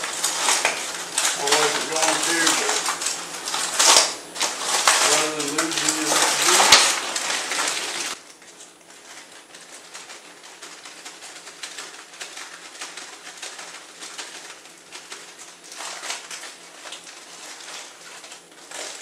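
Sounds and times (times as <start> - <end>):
aluminium foil crinkling: 0.0 - 19.0.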